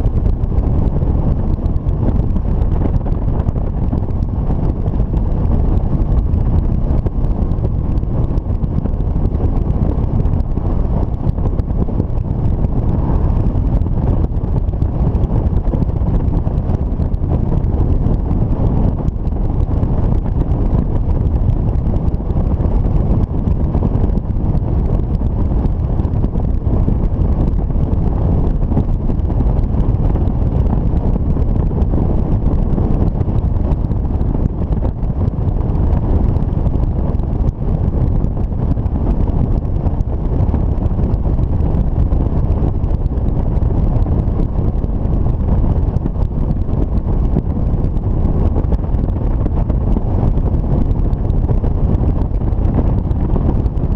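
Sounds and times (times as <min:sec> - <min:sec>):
motorcycle engine running: 0:00.0 - 0:53.9
road noise: 0:00.0 - 0:53.9
wind rushing over microphone: 0:00.0 - 0:53.9.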